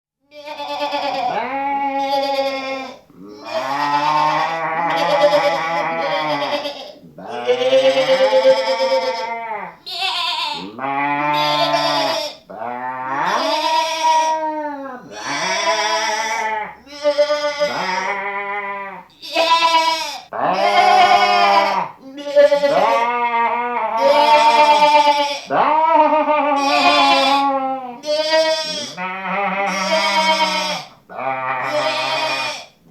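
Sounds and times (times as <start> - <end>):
sheep bleating: 0.3 - 32.8.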